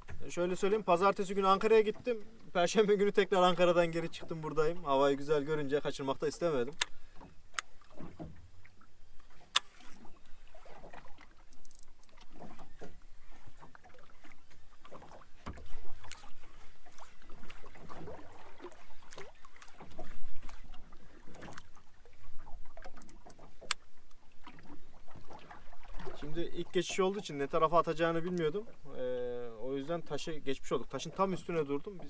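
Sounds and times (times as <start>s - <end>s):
water splashing against boat hull: 0.0s - 32.0s.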